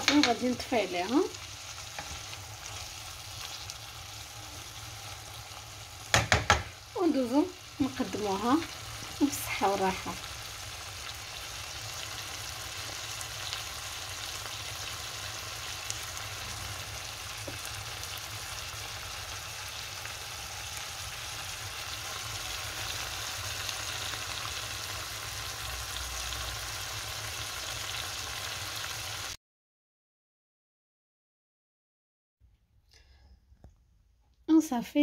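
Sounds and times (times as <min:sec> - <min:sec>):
food sizzling in a frying pan: 0:00.0 - 0:29.4.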